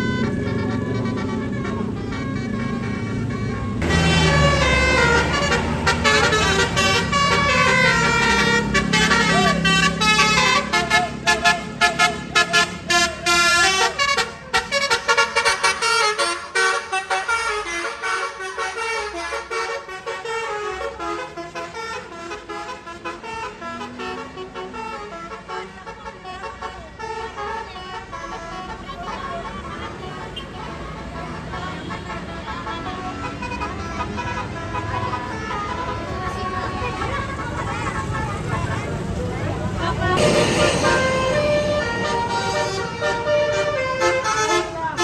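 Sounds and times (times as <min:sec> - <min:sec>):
bus engine rumble: 0:00.0 - 0:45.0
bus horn playing melody: 0:00.0 - 0:45.0.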